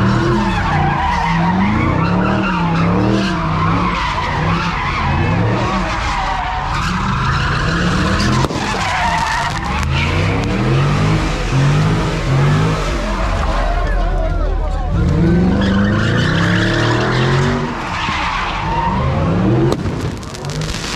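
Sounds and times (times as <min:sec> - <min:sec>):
tyres squealing: 0:00.0 - 0:19.6
car engine revving: 0:00.0 - 0:20.9.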